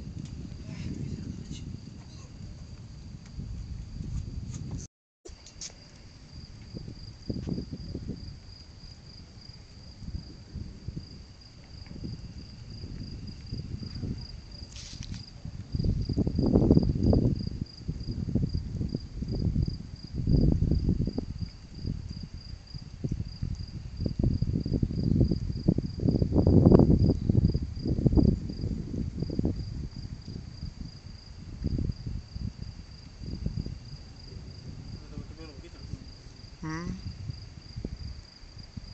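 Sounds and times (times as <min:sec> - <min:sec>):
low rolling thunder: 0:00.0 - 0:04.5, 0:06.2 - 0:14.7, 0:15.3 - 0:38.9
crickets chirping: 0:00.0 - 0:04.7, 0:05.3 - 0:38.9.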